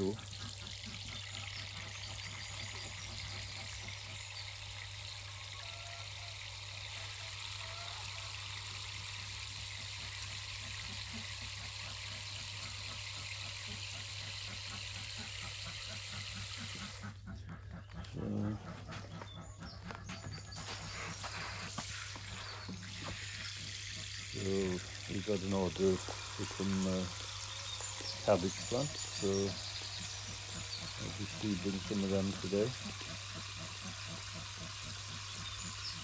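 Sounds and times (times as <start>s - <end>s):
running water hiss: 0.0s - 17.1s, 20.6s - 36.0s.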